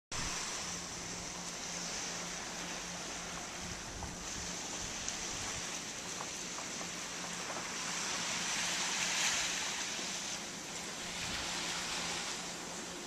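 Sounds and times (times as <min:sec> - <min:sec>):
gentle surf on beach: 0:00.1 - 0:13.0.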